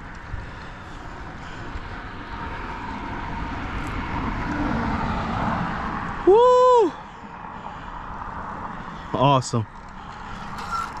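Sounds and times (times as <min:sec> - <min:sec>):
passing vehicle engine and tyres: 0:00.0 - 0:11.0.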